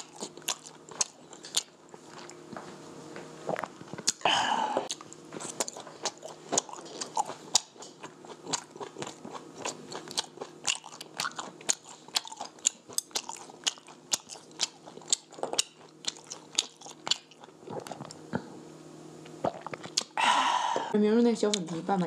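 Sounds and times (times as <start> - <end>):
man chewing crunchy food: 0.0 - 2.8, 3.4 - 18.5, 19.2 - 20.2.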